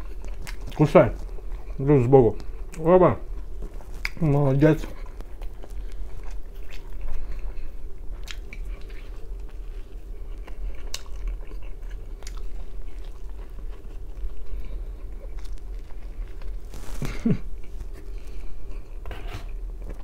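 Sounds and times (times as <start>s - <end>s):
chewing pizza: 0.0s - 20.0s
steady low hum: 0.0s - 20.0s.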